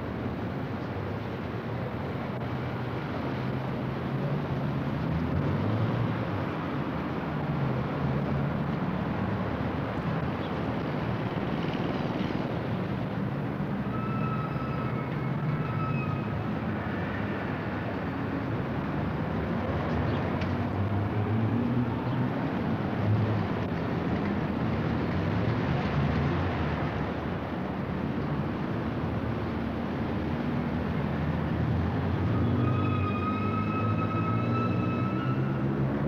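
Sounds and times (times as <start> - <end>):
cars driving past: 2.2 - 36.0.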